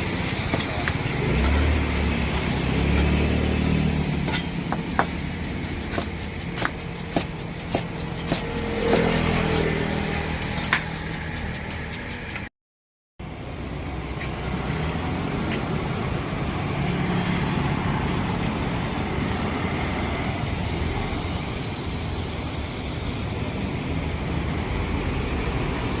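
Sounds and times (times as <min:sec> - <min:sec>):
roadside traffic rumble: 0:00.0 - 0:12.5, 0:13.2 - 0:26.0.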